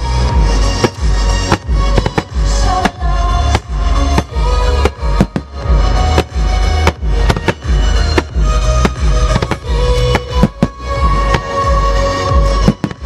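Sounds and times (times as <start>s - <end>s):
fireworks bursting: 0.0s - 13.0s
music with heavy bass: 0.0s - 13.0s.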